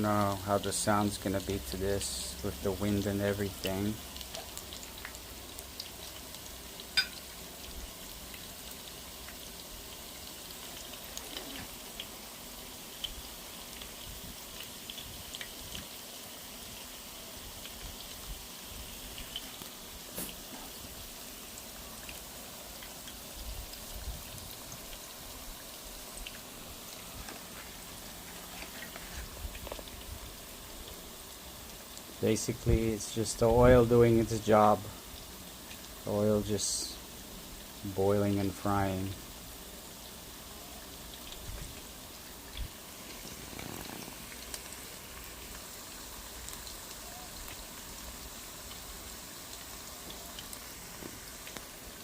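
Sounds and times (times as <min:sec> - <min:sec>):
hot oil sizzling and popping: 0:00.0 - 0:52.0.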